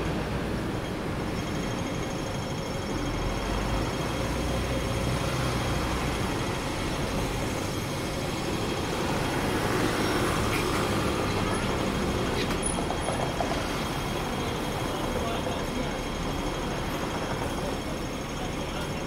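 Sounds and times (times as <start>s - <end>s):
buses and lorry driving past: 0.0s - 19.0s
engine and tyre noise: 0.0s - 19.0s.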